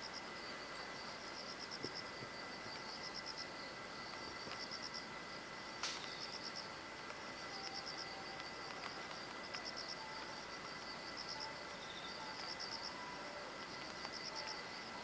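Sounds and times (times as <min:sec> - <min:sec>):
insect chirping in pulsed trills: 0:00.0 - 0:15.0
steady background noise: 0:00.0 - 0:15.0.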